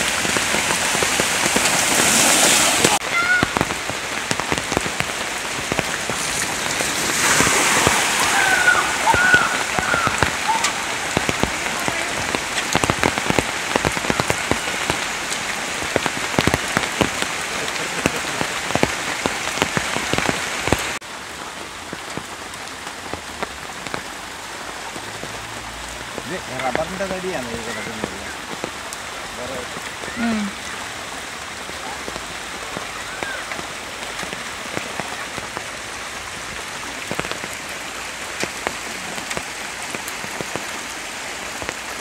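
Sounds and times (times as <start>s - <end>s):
rain on umbrella: 0.0s - 42.0s.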